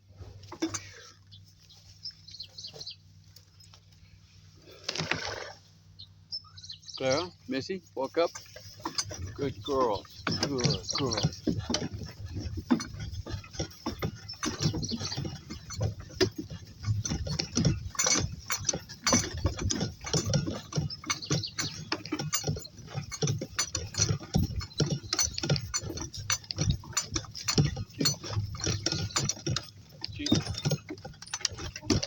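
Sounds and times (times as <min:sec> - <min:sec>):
rattling gear: 0:00.0 - 0:05.3, 0:06.5 - 0:32.0
donkey hoofsteps: 0:00.2 - 0:05.3, 0:06.0 - 0:32.0.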